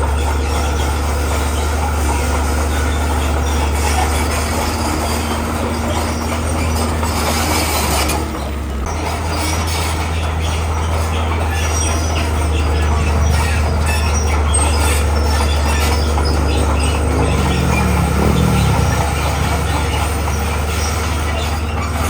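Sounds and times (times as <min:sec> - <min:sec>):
bulldozer diesel engine drone: 0:00.0 - 0:22.0
steel tracks squealing and clattering: 0:00.0 - 0:22.0.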